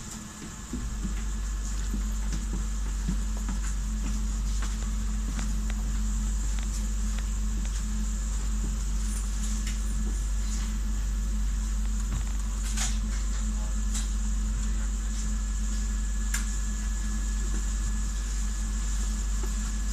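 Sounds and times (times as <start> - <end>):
train carriage low hum: 0.0 - 19.9.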